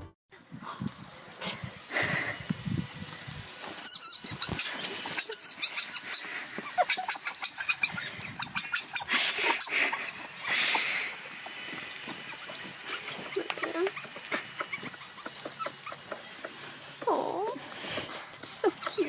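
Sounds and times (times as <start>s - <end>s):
pet animals: 0.4s - 19.0s.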